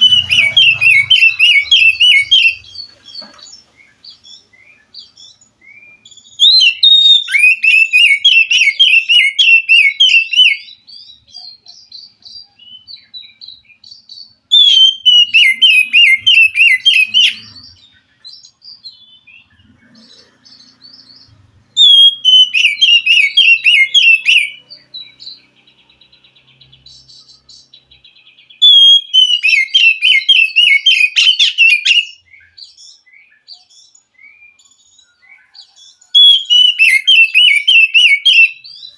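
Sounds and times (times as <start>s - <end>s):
bird singing rapid high notes: 0.0s - 38.9s
bird twittering: 0.0s - 38.9s.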